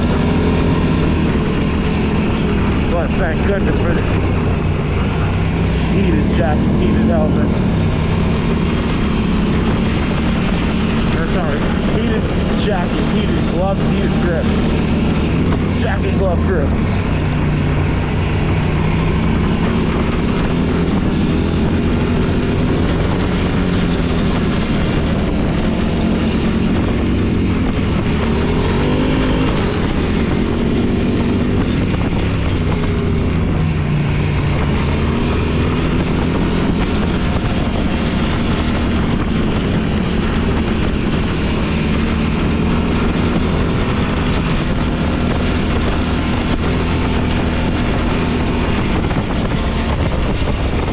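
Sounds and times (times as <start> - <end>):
off-road vehicle engine revving: 0.0 - 50.9
wind rushing over microphone: 0.0 - 50.9.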